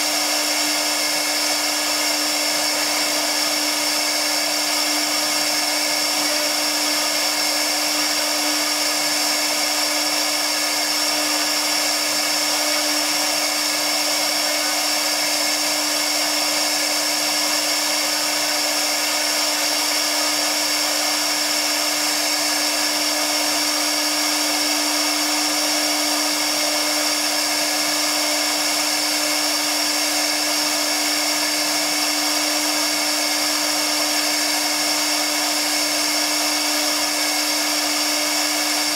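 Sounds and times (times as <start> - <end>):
router spindle whine and cutting hiss: 0.0 - 38.9.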